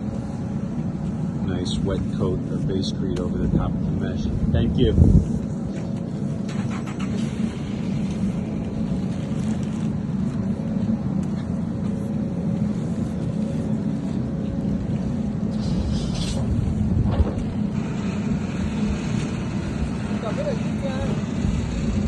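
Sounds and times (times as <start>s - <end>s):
machinery droning: 0.0s - 22.0s.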